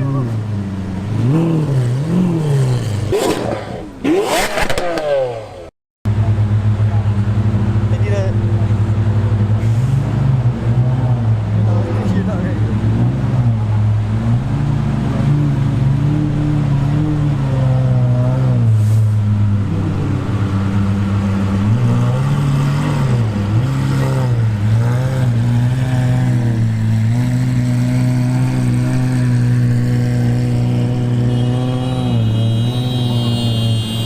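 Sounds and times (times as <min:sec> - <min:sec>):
sports car engine revving: 0:00.0 - 0:33.9.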